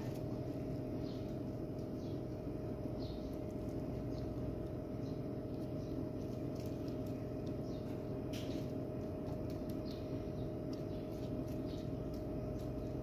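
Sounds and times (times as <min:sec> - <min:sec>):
faint irregular ticks: 0:00.0 - 0:13.0
low background hum: 0:00.0 - 0:13.0.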